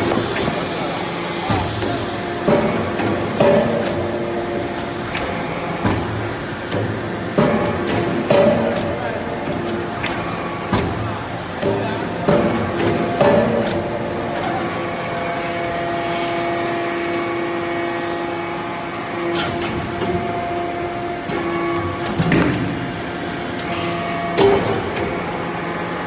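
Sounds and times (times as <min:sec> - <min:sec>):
hydraulic pump hum: 0:00.0 - 0:26.0.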